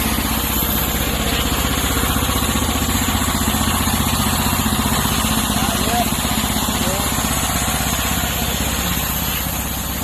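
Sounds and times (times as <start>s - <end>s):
small sawmill engine running: 0.0s - 10.0s.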